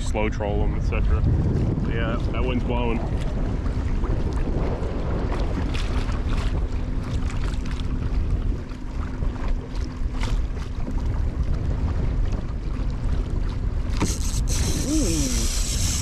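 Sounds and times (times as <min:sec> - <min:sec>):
water splashing against kayak: 0:00.0 - 0:16.0
wind buffeting microphone: 0:00.0 - 0:16.0.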